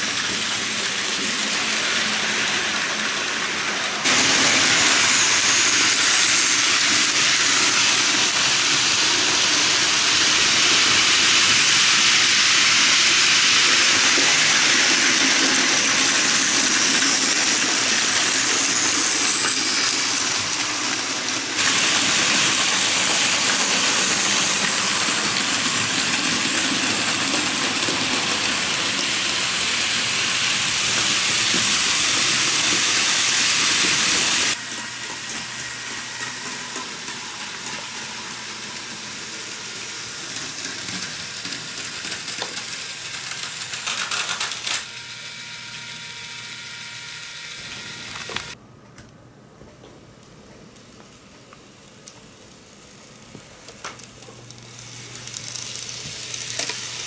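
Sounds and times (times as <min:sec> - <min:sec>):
model trains whirring on track: 0:00.0 - 0:48.6, 0:50.8 - 0:57.0.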